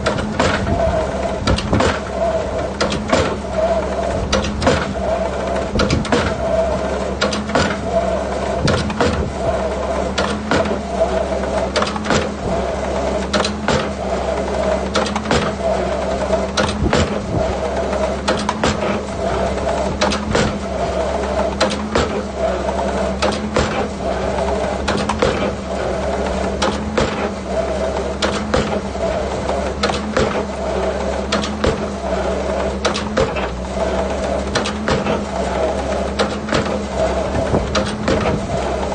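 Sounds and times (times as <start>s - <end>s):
excavator engine drone: 0.0s - 38.9s.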